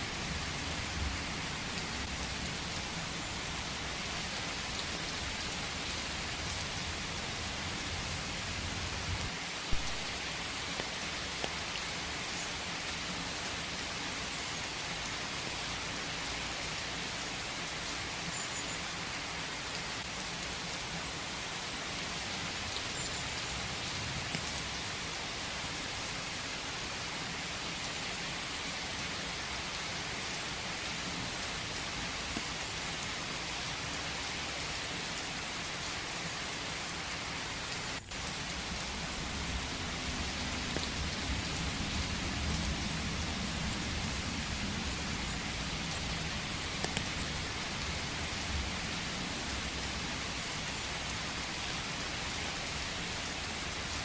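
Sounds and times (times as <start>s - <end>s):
rain falling in forest: 0.0s - 54.0s
sharp raindrops: 0.0s - 54.0s.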